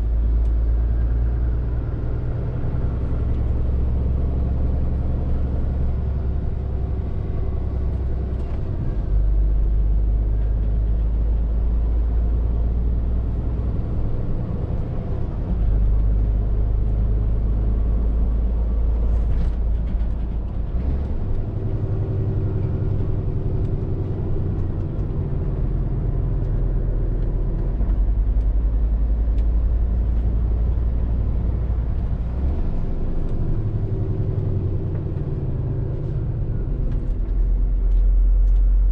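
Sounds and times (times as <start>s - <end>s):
diesel lorry engine drone: 0.0s - 38.9s.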